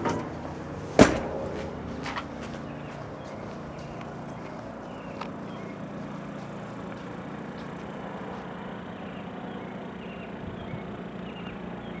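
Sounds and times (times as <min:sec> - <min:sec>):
low outdoor hum: 0:00.0 - 0:12.0.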